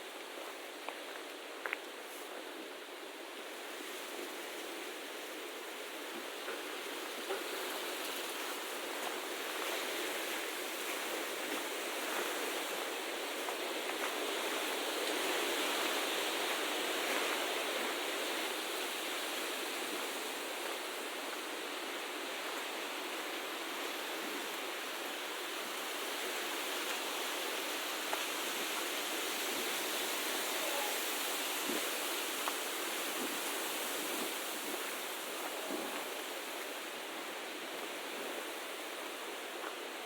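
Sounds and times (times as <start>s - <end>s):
flowing water rushing: 2.7s - 40.0s.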